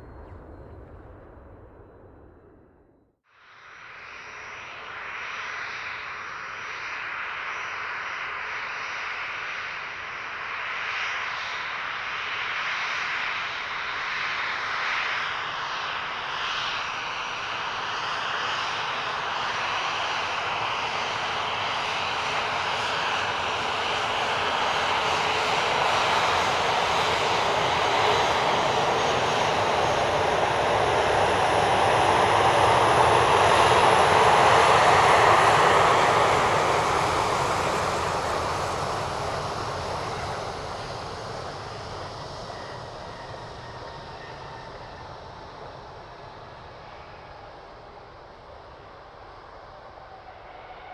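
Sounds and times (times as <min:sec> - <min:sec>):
jet engine roar: 0:00.0 - 0:03.0, 0:03.7 - 0:50.9.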